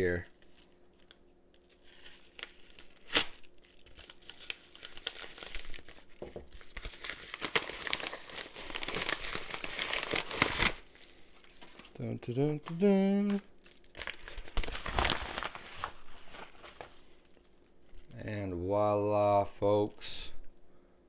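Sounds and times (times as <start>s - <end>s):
plastic packaging crinkling and tearing: 0.0s - 18.1s.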